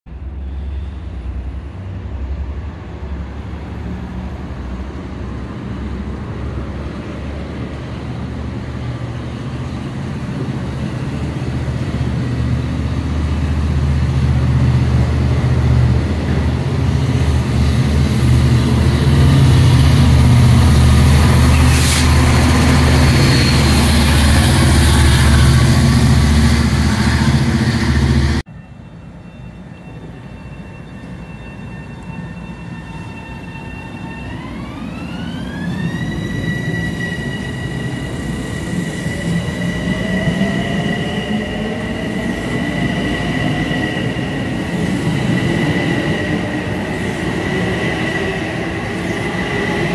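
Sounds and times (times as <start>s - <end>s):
train engine hum: 0.1s - 49.9s.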